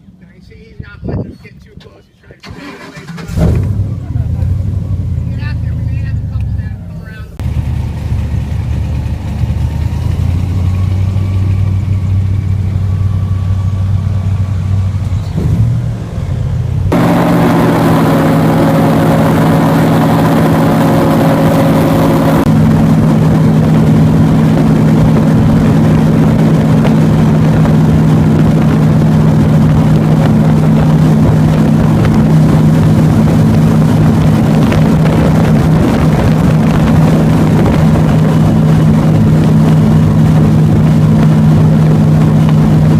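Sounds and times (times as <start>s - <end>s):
wind noise: 0.5s - 4.3s, 10.6s - 42.9s
airboat engine and propeller: 2.4s - 42.9s.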